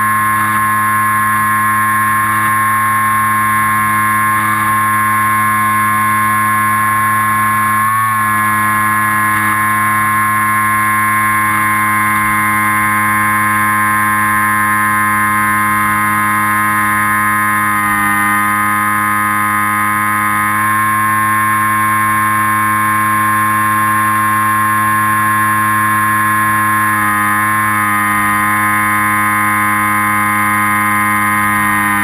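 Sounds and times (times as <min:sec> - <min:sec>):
model aircraft motor whine: 0:00.0 - 0:32.0.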